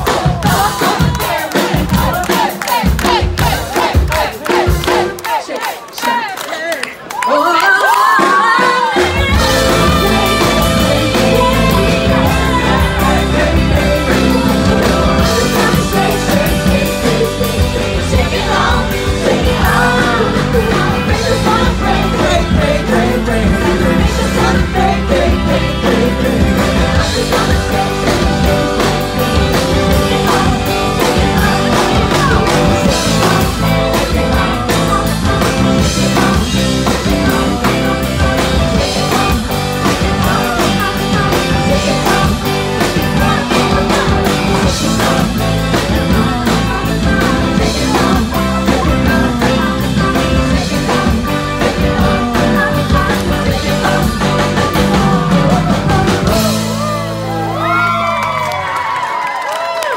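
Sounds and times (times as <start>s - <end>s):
drum kit: 0.0s - 5.4s, 8.0s - 59.2s
person singing: 7.3s - 58.2s
electric guitar: 8.4s - 59.9s.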